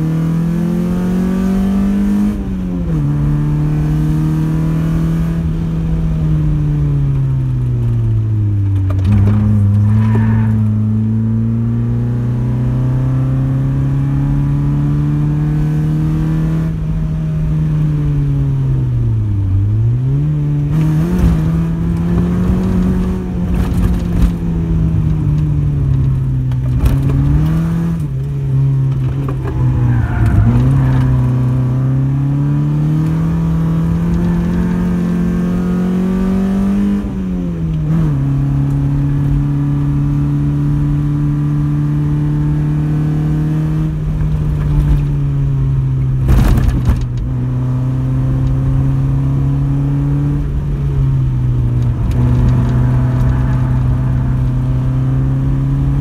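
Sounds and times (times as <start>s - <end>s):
car engine revving from inside cabin: 0.0s - 56.0s.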